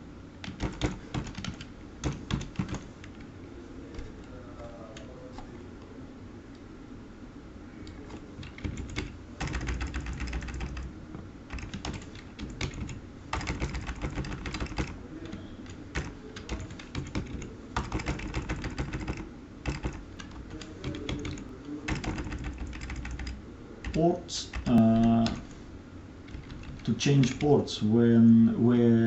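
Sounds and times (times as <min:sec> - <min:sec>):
keyboard typing: 0:00.4 - 0:03.3, 0:03.9 - 0:05.5, 0:07.8 - 0:25.5, 0:26.3 - 0:27.5.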